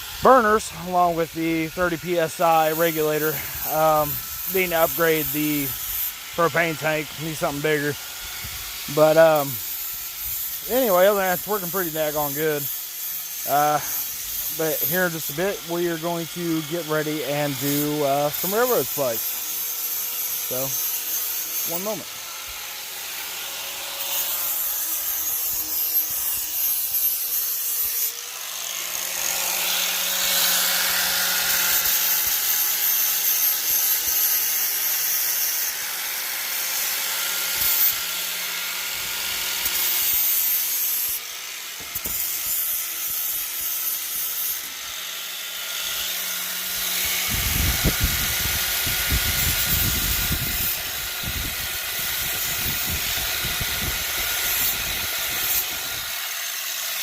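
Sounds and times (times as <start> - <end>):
power grinder on steel: 0.0 - 57.0.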